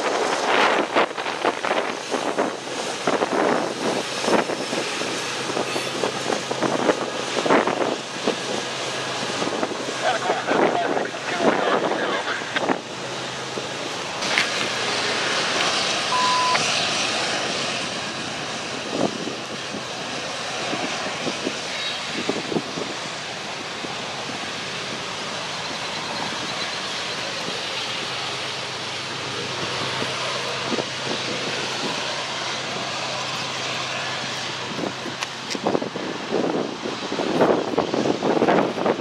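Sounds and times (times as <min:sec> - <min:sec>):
freight train rushing past: 0:00.0 - 0:39.0
low engine hum: 0:00.0 - 0:39.0.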